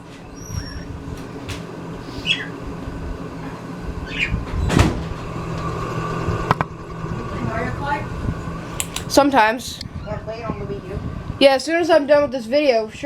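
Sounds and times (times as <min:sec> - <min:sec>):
ceiling fan humming: 0:00.0 - 0:13.0
fan squeaks: 0:00.0 - 0:13.0.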